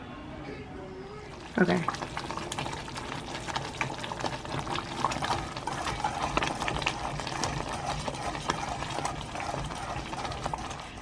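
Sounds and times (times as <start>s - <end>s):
food sizzling in a pan: 1.2s - 11.0s.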